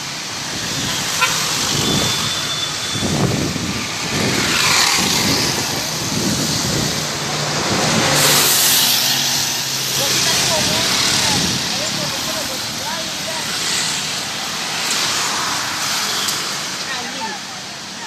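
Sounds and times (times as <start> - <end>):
vehicles passing: 0.0 - 18.0.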